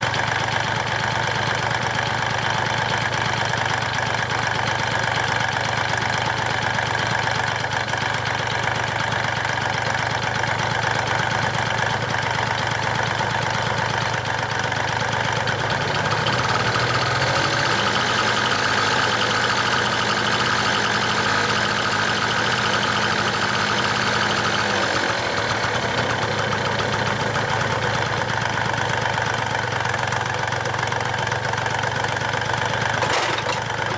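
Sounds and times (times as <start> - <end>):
car engine with rattling knock: 0.0 - 33.9.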